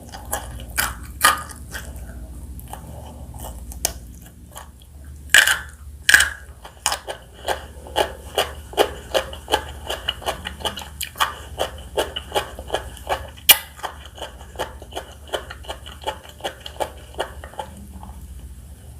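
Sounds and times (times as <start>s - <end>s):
crunchy chewing: 0.0s - 18.6s.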